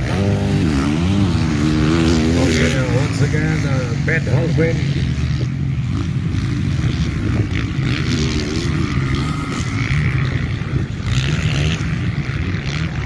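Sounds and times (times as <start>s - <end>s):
dirt bike engines running: 0.0s - 13.0s.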